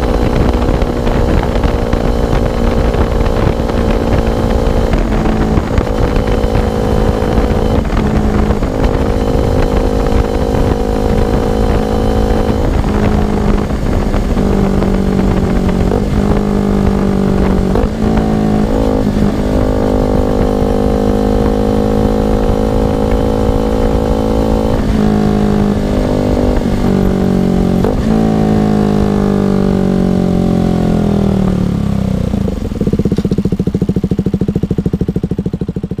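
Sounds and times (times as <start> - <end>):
motorcycle revving through gears: 0.0 - 36.0.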